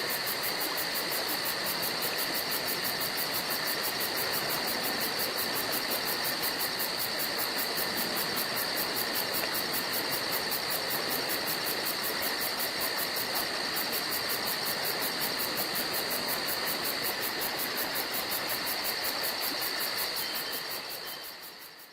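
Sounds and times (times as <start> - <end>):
constant hiss: 0.0 - 21.9
insects chirring: 0.0 - 21.9.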